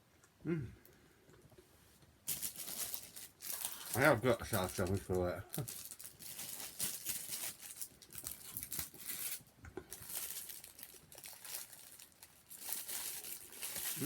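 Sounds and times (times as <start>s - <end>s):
plastic packaging crinkling: 2.2s - 14.0s.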